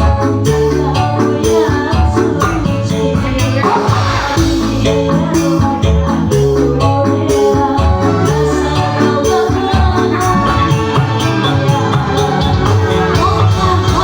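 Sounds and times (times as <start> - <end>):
band music with steady beat: 0.0 - 14.0.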